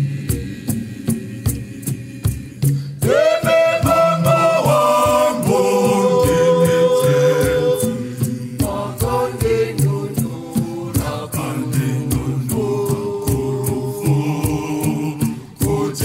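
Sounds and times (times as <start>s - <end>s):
steady beat: 0.0s - 16.0s
women's choir singing a hymn: 0.0s - 16.0s.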